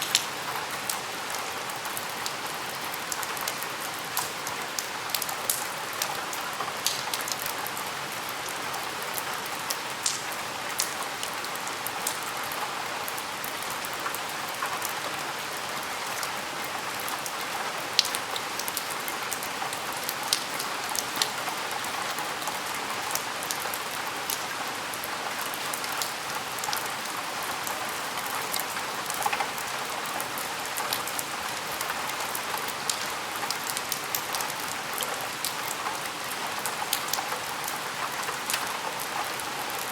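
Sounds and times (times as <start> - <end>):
rain against a window: 0.0 - 39.9.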